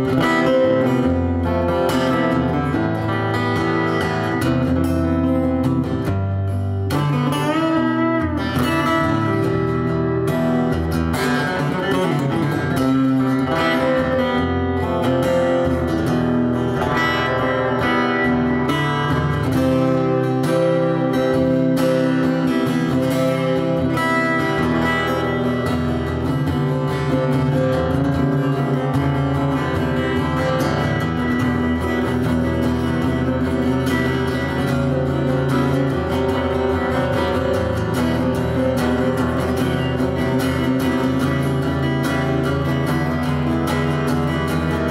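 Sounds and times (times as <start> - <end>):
acoustic guitar: 0.0 - 44.9.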